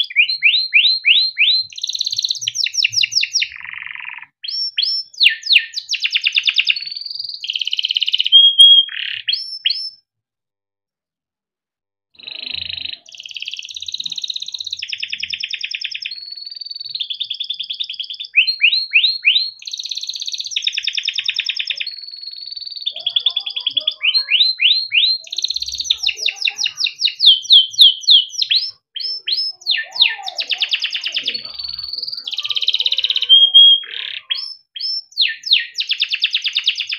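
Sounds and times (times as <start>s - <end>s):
canary singing: 0.0s - 10.0s, 12.2s - 36.9s.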